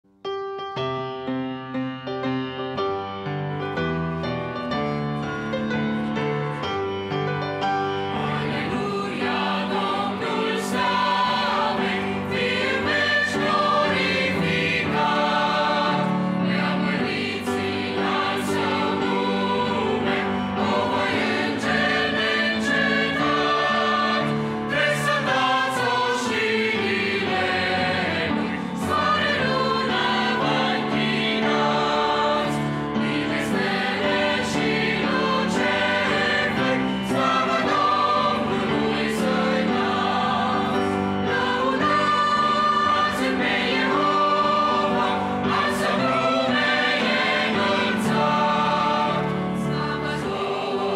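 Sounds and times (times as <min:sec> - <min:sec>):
piano accompaniment: 0:00.1 - 0:50.9
mixed choir singing a hymn: 0:07.6 - 0:50.9.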